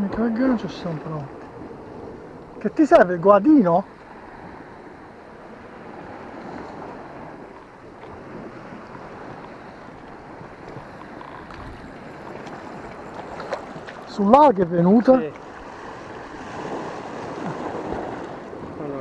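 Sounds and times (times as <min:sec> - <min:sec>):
sea waves washing over rocks: 0:00.0 - 0:19.0.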